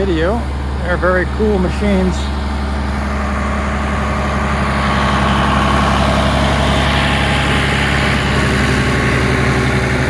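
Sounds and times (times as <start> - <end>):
baler machinery whirring: 0.0 - 10.0
tractor engine hum: 0.0 - 10.0.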